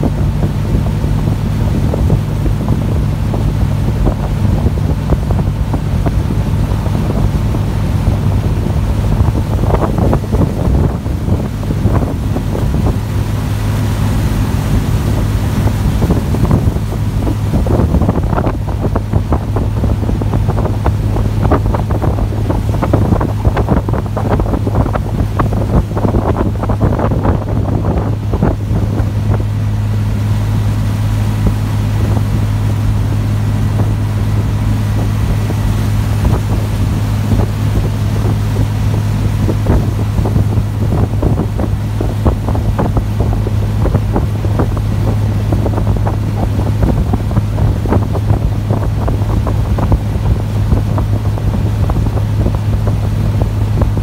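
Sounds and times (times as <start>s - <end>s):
boat diesel engine drone: 0.0s - 54.0s
water rushing along hull: 0.0s - 54.0s
wind buffeting microphone: 0.0s - 54.0s.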